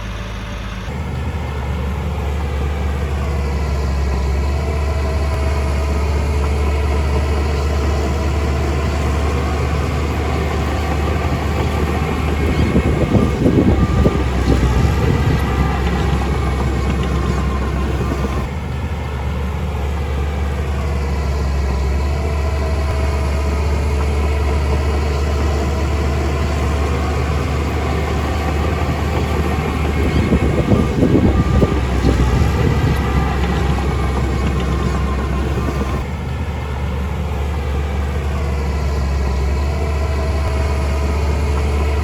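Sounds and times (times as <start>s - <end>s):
diesel construction machine running: 0.0s - 42.0s.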